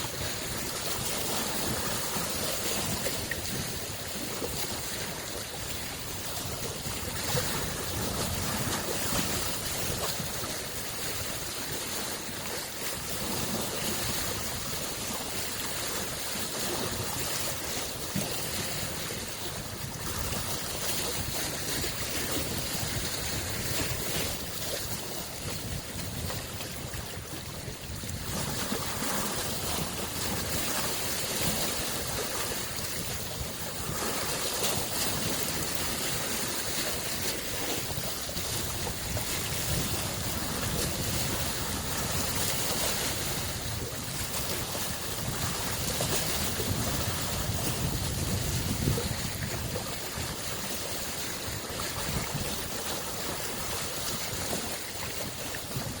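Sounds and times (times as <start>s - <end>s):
waves lapping on shore: 0.0s - 56.0s.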